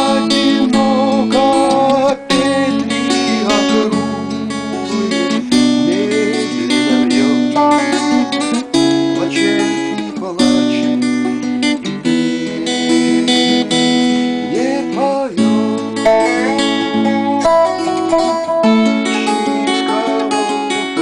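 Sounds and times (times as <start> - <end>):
acoustic guitar: 0.0 - 21.0
slide guitar gliding notes: 0.0 - 21.0.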